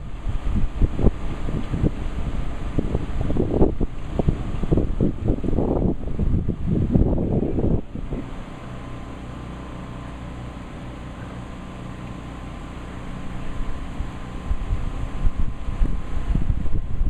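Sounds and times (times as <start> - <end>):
low mechanical hum: 0.0 - 17.0
rain hiss: 0.0 - 17.0
wind buffeting microphone: 0.0 - 17.0.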